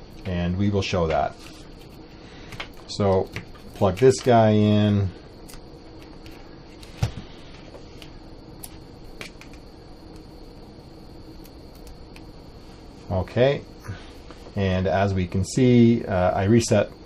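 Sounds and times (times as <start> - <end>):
cooling fan humming: 0.0 - 17.0.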